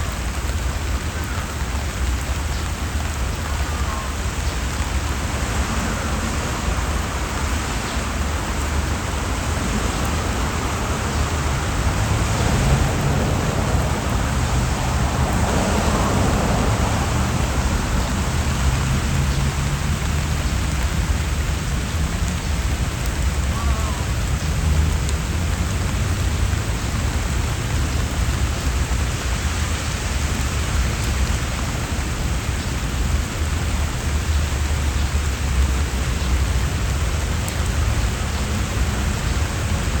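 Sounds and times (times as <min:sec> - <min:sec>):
rain falling on trees and stone: 0:00.0 - 0:40.0.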